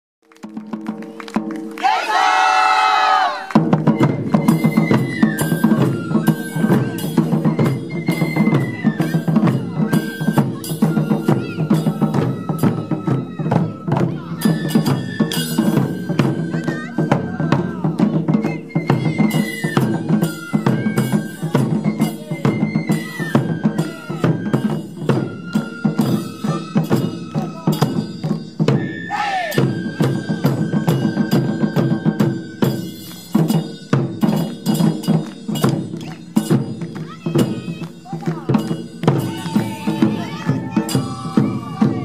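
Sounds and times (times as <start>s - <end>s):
drum ensemble playing fast: 0.4s - 42.0s
flutes playing high melody: 1.6s - 34.5s, 35.6s - 42.0s.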